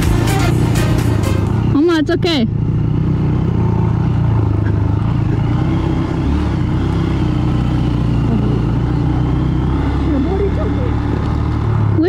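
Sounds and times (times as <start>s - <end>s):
motorcycle engine running low speed: 0.0s - 12.0s.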